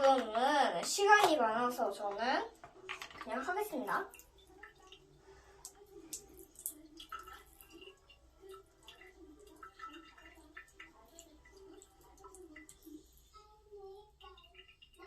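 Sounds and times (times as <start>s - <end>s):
water dripping and trickling: 0.0s - 15.0s.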